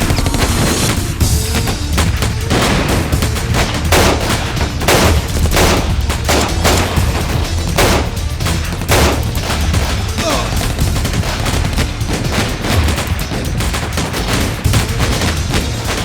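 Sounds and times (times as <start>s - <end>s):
background music: 0.0s - 16.0s
gunfire bursts: 0.0s - 16.0s.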